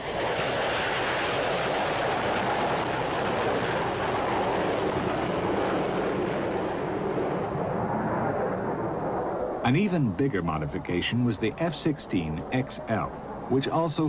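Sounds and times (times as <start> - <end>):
fighter jet rushing noise: 0.0 - 14.0.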